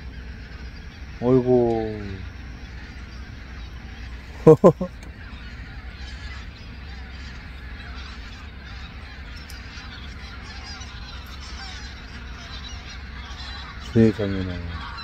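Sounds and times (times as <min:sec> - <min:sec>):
flock of waterfowl calling: 0:00.0 - 0:15.0.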